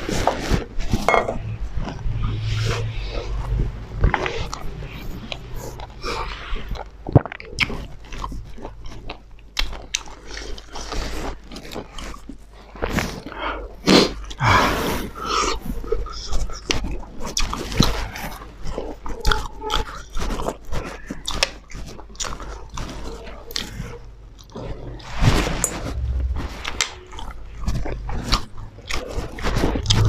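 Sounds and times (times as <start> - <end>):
people chewing and biting food: 0.0 - 30.0.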